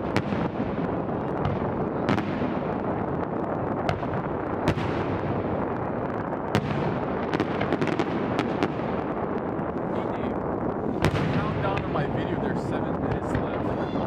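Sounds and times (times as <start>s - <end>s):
rumble of firework bursts: 0.0s - 14.0s
sharp firework cracks: 0.0s - 14.0s.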